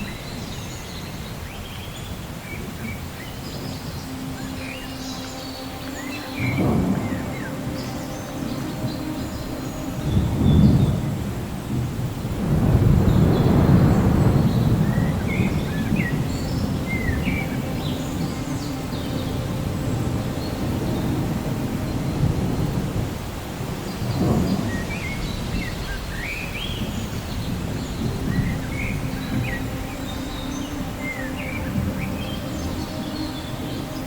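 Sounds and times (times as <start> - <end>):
birds chirping: 0.0 - 34.0
steady rain: 0.0 - 34.0
rolling thunder: 5.8 - 34.0.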